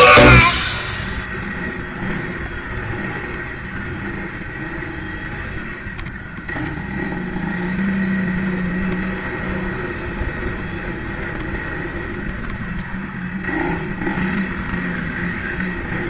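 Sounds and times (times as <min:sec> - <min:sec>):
off-road vehicle engine running: 0:00.1 - 0:16.0
wind and terrain noise: 0:01.1 - 0:16.0.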